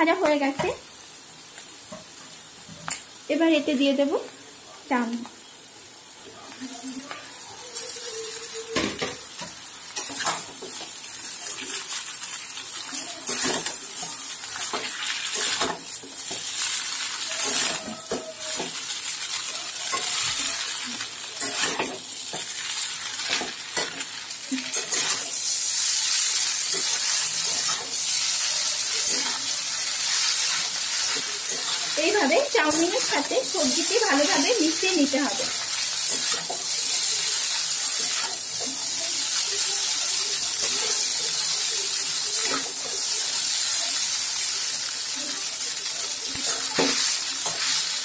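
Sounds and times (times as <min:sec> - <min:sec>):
noodles sizzling in hot oil: 0:00.0 - 0:48.0.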